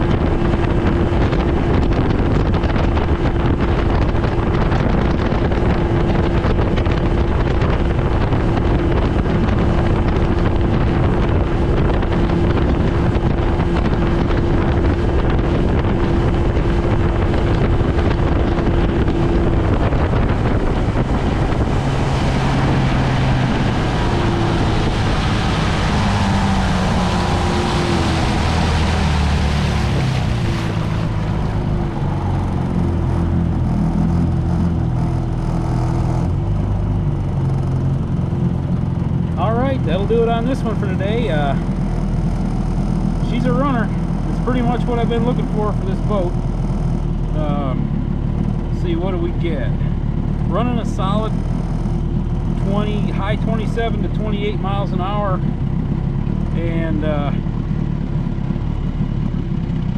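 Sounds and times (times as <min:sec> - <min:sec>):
outboard motor running: 0:00.0 - 0:59.9
wind on microphone: 0:00.0 - 0:59.9.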